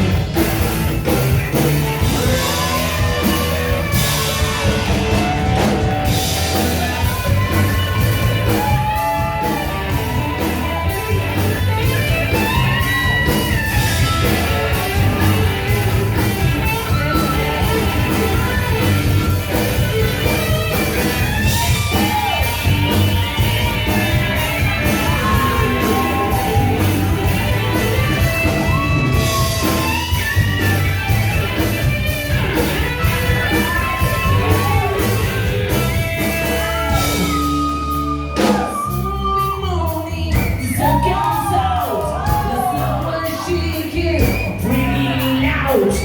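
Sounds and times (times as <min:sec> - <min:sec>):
loud rock music with singing: 0:00.0 - 0:46.0.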